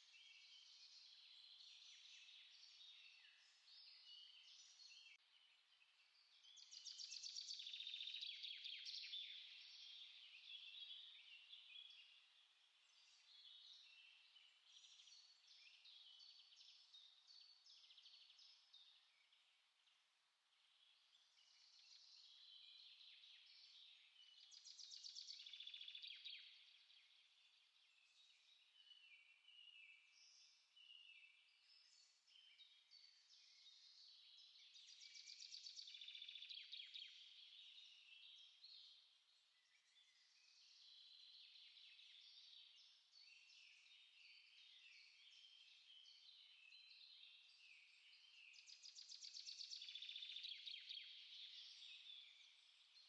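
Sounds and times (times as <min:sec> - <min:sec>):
faint songbirds singing: 0:00.0 - 0:53.0.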